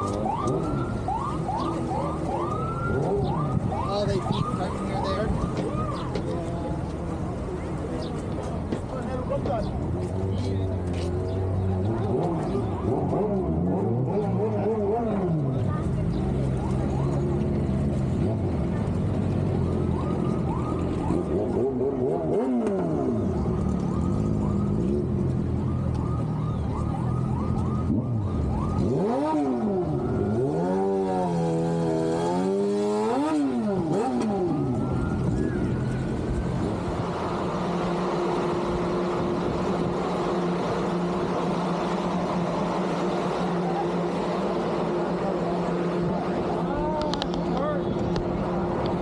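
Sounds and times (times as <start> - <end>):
vehicle engines revving: 0.0 - 49.0.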